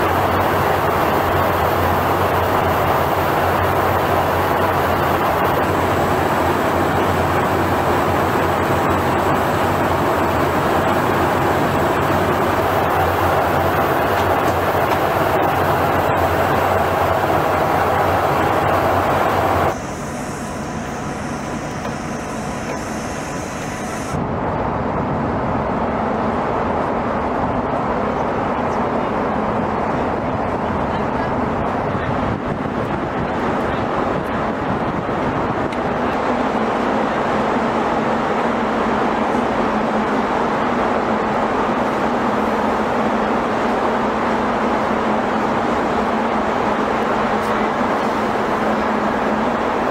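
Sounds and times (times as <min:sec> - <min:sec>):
jet engine rushing: 0:00.0 - 0:49.9.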